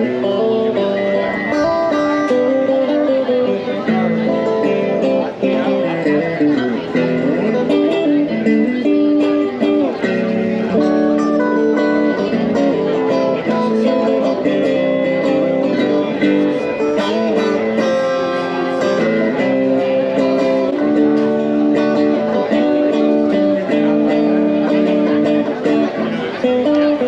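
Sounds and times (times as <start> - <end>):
guitar music: 0.0 - 27.0.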